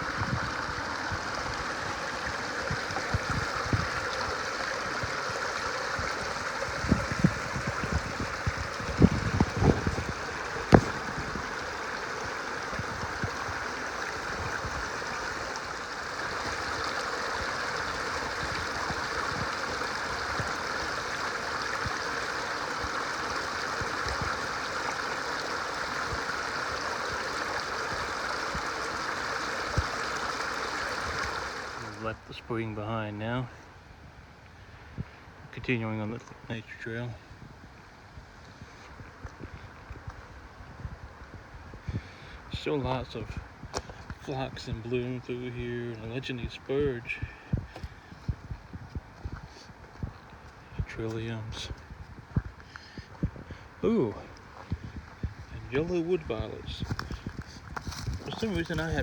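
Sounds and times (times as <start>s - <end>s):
spring water flowing: 0.0s - 32.3s, 36.4s - 59.0s.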